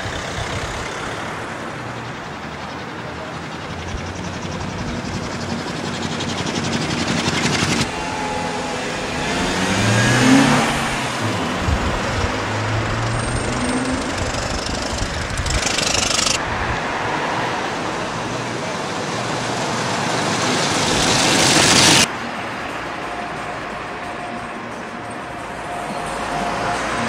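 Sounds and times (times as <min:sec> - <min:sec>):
modern car passing: 0:00.0 - 0:27.0
veteran car engines clattering: 0:00.0 - 0:27.0.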